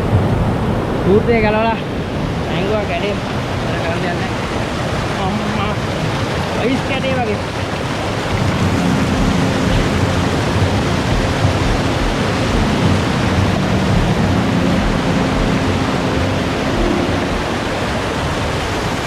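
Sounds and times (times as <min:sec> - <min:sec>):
fast-flowing stream rushing: 0:00.0 - 0:19.0.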